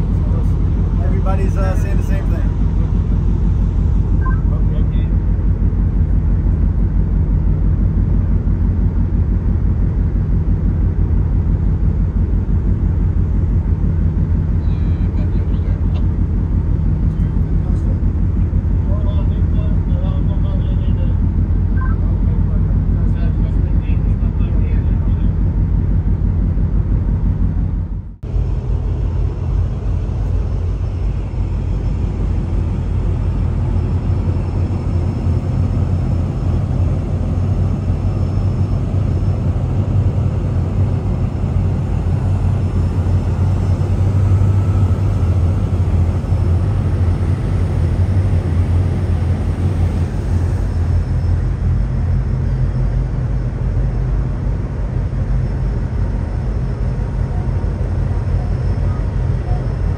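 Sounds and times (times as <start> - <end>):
low hums: 0.0 - 59.9
ship engine rumble: 0.0 - 59.9.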